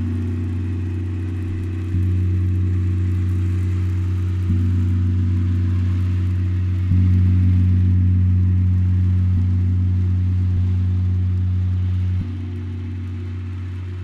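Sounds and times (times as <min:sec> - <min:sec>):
low drone tones: 0:00.0 - 0:14.0.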